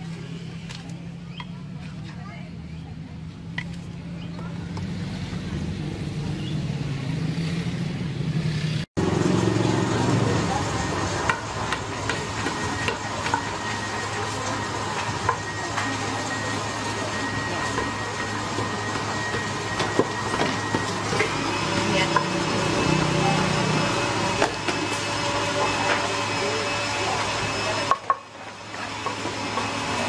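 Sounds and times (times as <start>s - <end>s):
faint voices: 0.0s - 7.4s, 9.6s - 30.0s.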